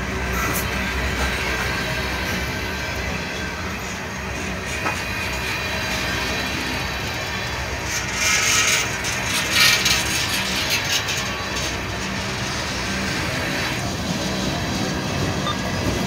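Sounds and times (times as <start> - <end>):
freight train cars rolling past: 0.0 - 16.0
steel wheels on rails: 0.0 - 16.0.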